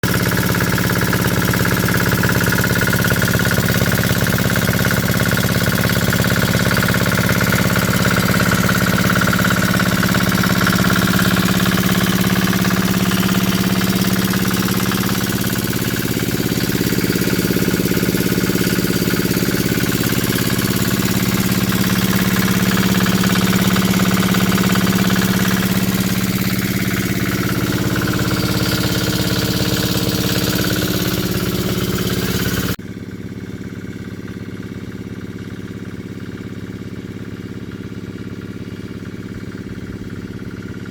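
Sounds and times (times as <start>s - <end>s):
diesel engine running: 0.0s - 35.2s.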